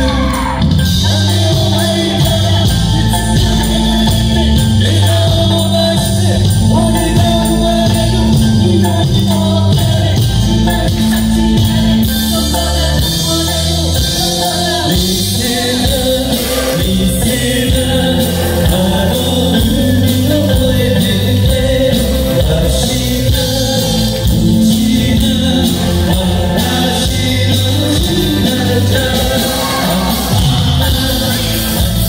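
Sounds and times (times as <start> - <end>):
live band music with singing: 0.0 - 32.0.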